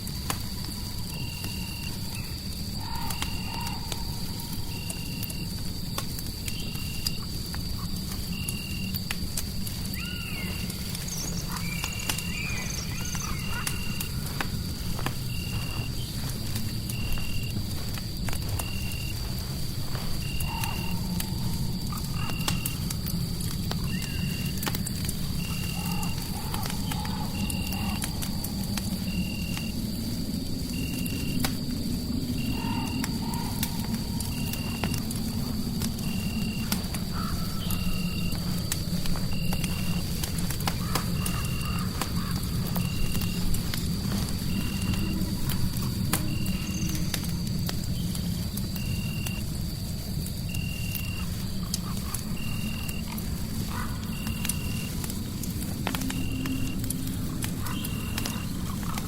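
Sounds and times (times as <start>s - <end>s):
fireplace crackling and popping: 0.0s - 59.0s
low rumble of fire: 0.0s - 59.0s.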